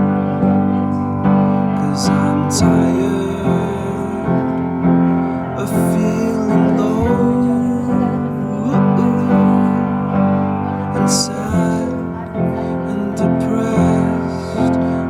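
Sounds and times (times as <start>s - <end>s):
person singing: 0.0s - 15.0s
slow pop song with piano: 0.0s - 15.0s.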